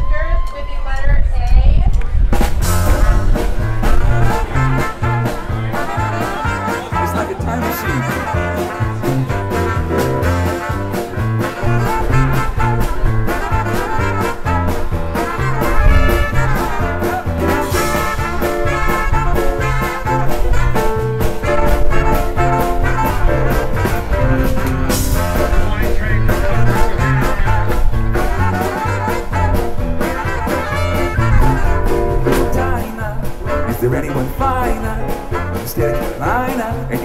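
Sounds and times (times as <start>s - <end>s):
swing music with brass: 2.3s - 37.0s.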